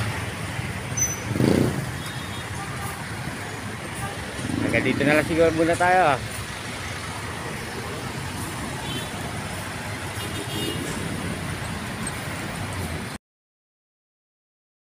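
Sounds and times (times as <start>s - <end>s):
cars and vans passing: 0.0s - 13.2s.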